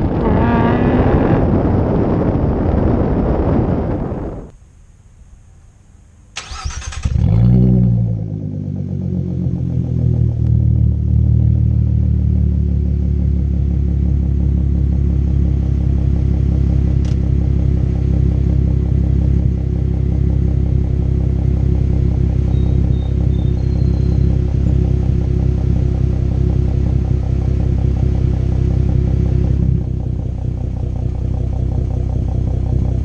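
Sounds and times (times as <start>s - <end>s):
car engine starting and idling: 6.4s - 33.0s.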